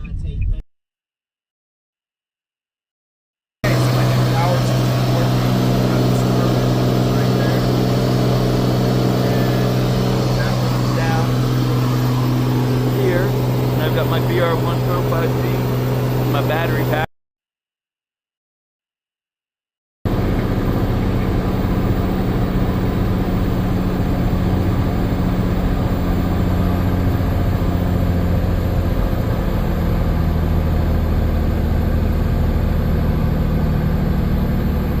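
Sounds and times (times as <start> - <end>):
aircraft cabin engine drone: 3.6 - 17.1, 20.1 - 35.0.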